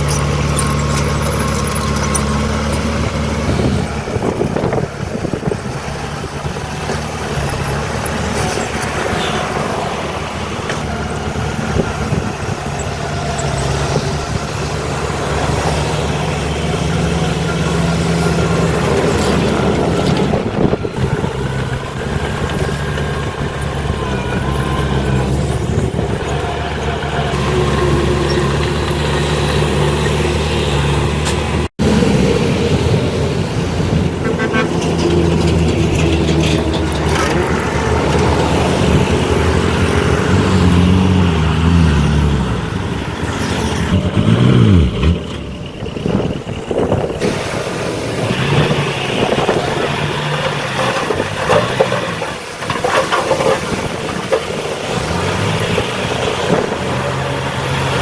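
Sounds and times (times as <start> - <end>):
heavy machine engines revving: 0.0 - 58.0.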